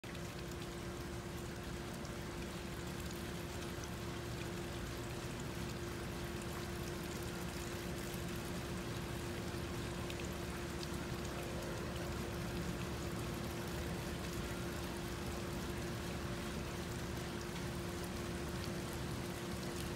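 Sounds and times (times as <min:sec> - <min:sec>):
water trickling onto concrete: 0:00.1 - 0:19.9.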